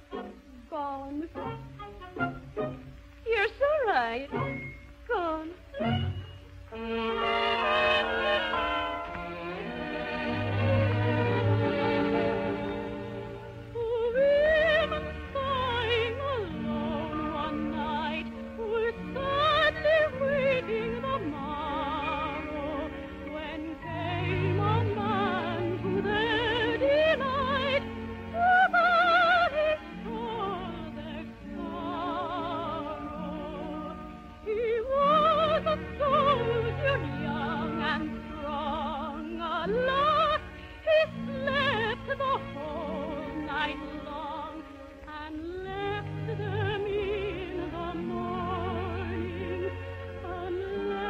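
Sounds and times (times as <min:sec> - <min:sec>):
operetta singing with vibrato: 0:00.0 - 0:51.0
orchestra accompaniment: 0:01.3 - 0:51.0.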